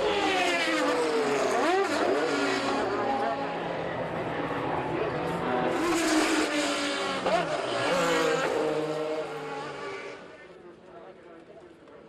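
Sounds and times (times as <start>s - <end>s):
racing car engines revving: 0.0s - 10.9s.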